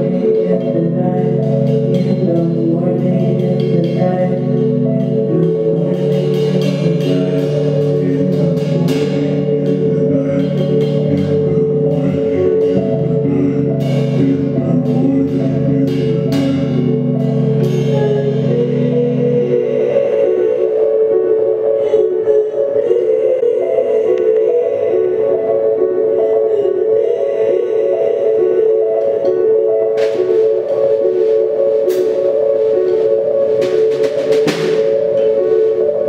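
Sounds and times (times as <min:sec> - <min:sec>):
keyboard and synth chords: 0:00.0 - 0:36.0.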